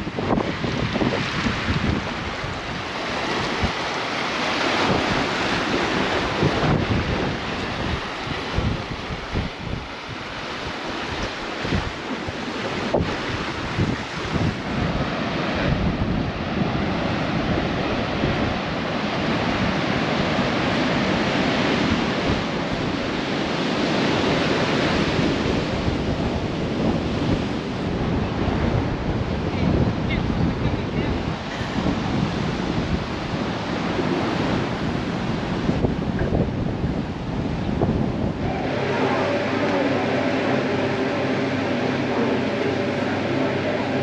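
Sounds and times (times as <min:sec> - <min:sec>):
surf washing: 0:00.0 - 0:44.0
wind buffeting microphone: 0:00.0 - 0:44.0.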